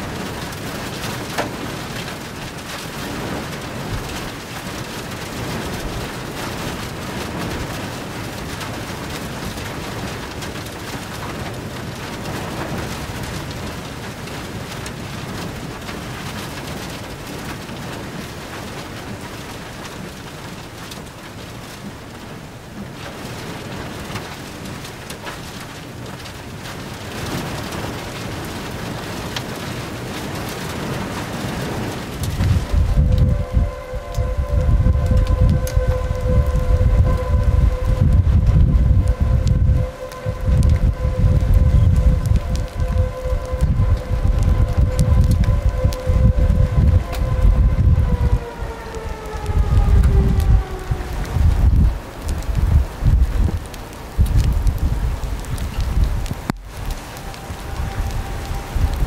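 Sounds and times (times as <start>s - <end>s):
heavy rain hissing: 0.0s - 59.0s
raindrops ticking: 0.0s - 59.0s.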